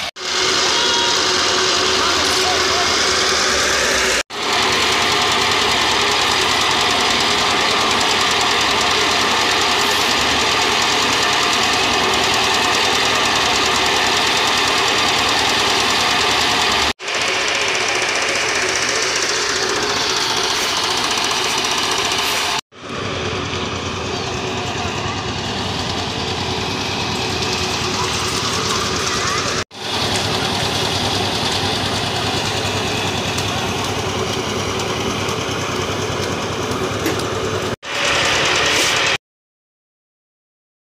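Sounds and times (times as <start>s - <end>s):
concrete mixer engine running: 0.0s - 39.2s.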